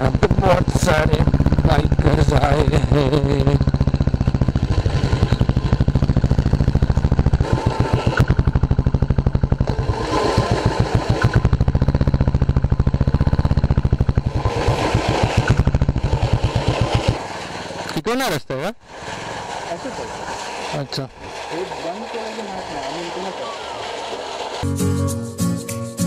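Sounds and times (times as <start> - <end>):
motorcycle engine running: 0.0 - 18.0, 18.9 - 24.7.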